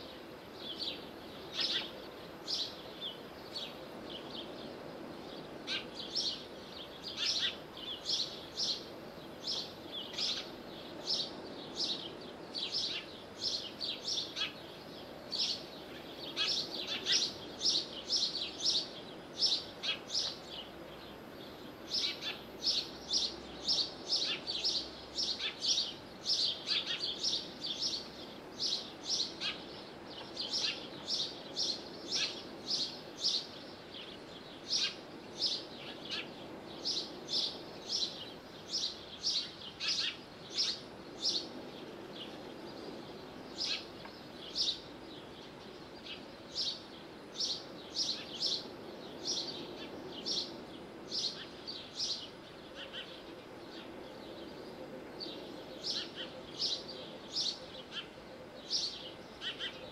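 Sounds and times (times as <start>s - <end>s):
low background noise: 0.0s - 59.9s
small birds chirping: 0.0s - 59.9s.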